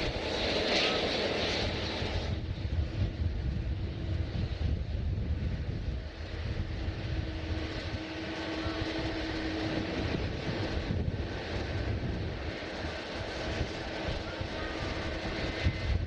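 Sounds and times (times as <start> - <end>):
jet engines rumbling: 0.0 - 16.0
wind on microphone: 0.0 - 16.0.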